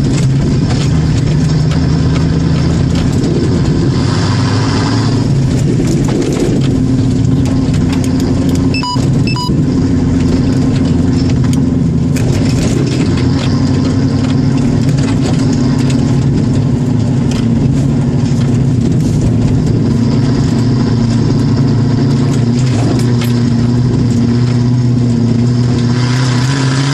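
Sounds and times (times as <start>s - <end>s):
knocks and rattles from bumps: 0.0s - 3.9s, 5.5s - 25.6s
car engine running: 0.0s - 26.9s.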